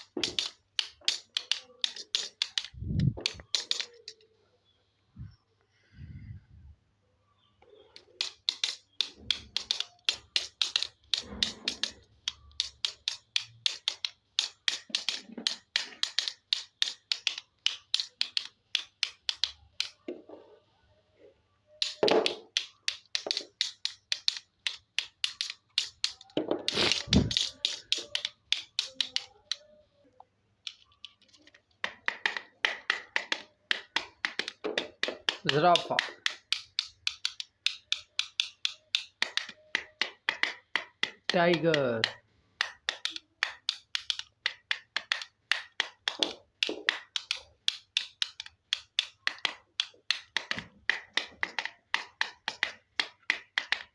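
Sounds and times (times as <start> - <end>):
plastic toy figures clicking: 0.0 - 4.3, 7.9 - 20.2, 21.7 - 29.8, 30.6 - 53.9.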